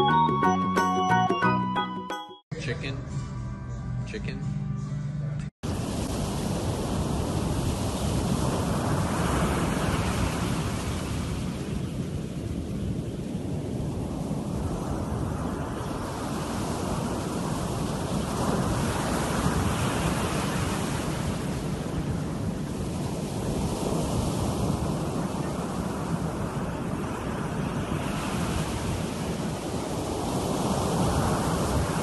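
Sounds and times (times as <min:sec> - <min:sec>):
surf breaking on beach: 0:05.6 - 0:32.0
wind rumbling on microphone: 0:05.6 - 0:32.0.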